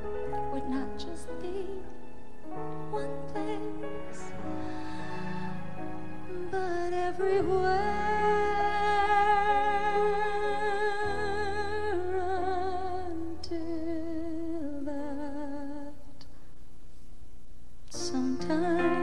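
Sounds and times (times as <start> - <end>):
soft sustained accompaniment: 0.0 - 16.1, 17.9 - 19.0
woman singing long wordless notes: 0.0 - 16.1, 17.9 - 19.0.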